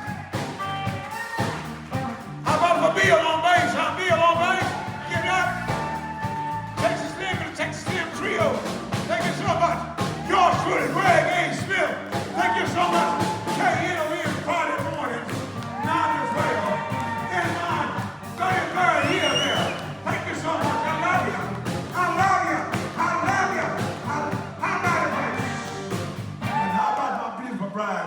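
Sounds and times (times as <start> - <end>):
lead guitar with bent notes: 0.0 - 14.0, 14.8 - 26.8
live blues-rock band playing: 0.0 - 26.8.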